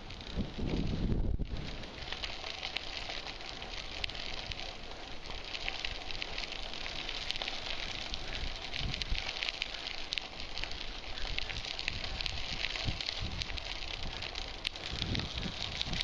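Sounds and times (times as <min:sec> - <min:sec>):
bicycle tyres rolling on gravel: 0:00.0 - 0:16.0.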